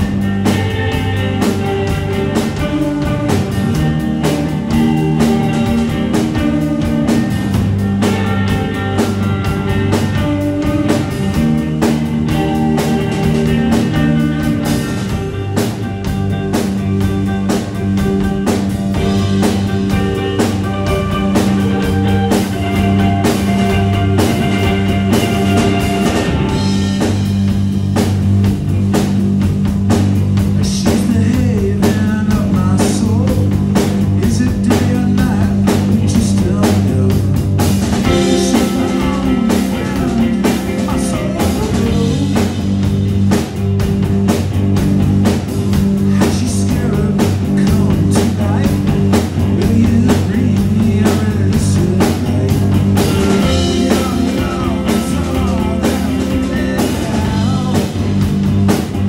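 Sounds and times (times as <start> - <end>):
bass holding low note: 0.0 - 59.0
drum kit beat: 0.0 - 59.0
electric guitars: 0.0 - 59.0.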